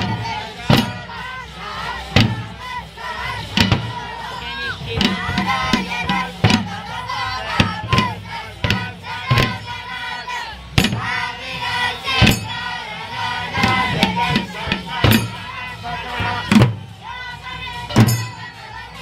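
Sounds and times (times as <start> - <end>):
crowd chanting and singing: 0.0 - 19.0
sharp percussion strikes: 0.0 - 19.0.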